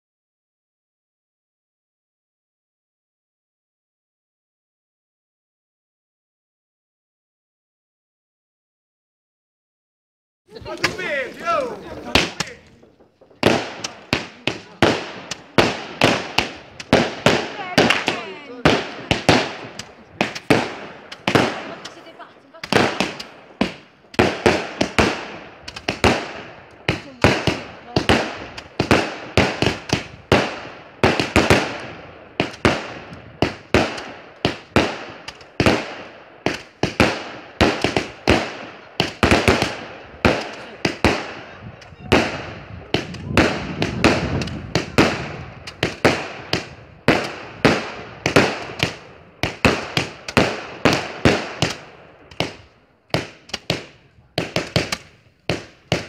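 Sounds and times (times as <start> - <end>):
fireworks bangs: 10.5 - 56.0.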